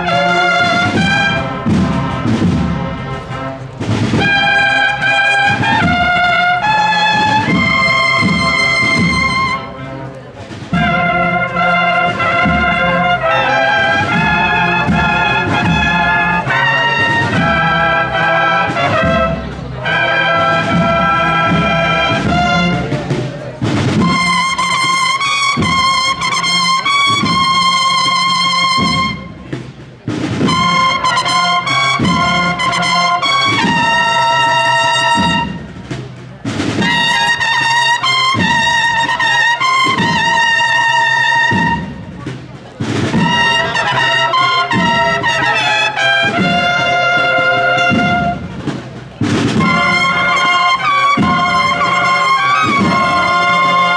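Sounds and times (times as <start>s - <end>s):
brass band playing a march: 0.0s - 53.9s
steady drum beats: 0.0s - 53.9s
trumpet notes with vibrato: 0.0s - 53.9s.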